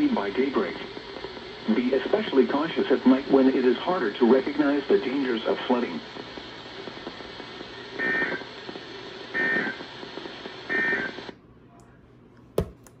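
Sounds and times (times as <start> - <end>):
radio static hiss: 0.0 - 11.4.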